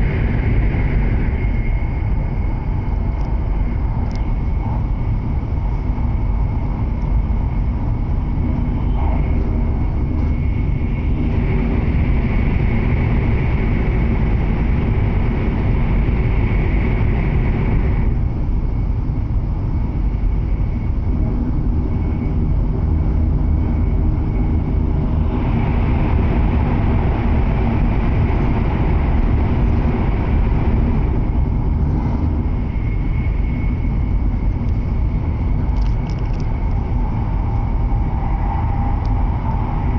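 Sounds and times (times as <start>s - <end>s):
train running noise inside car: 0.0s - 39.9s.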